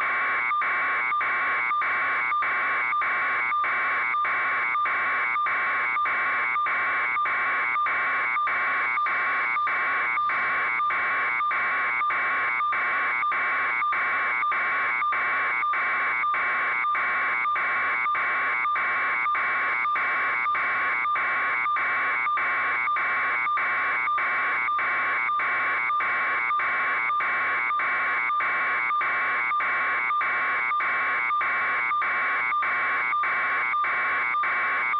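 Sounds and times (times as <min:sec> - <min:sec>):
electronic buzzing alarm: 0:00.0 - 0:34.9.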